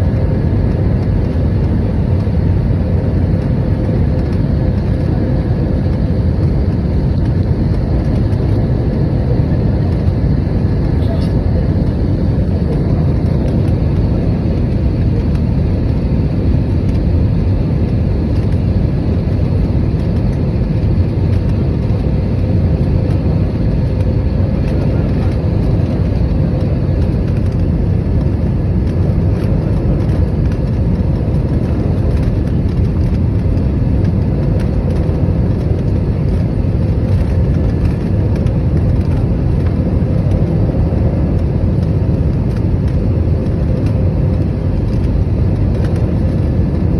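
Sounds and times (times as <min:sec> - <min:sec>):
airliner engine rumble in cabin: 0:00.0 - 0:46.9.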